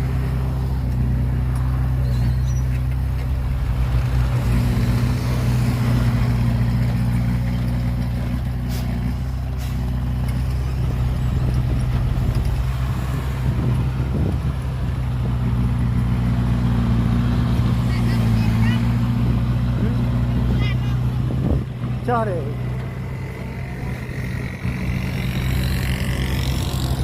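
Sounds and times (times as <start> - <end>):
heavy machinery engine droning: 0.0 - 27.0.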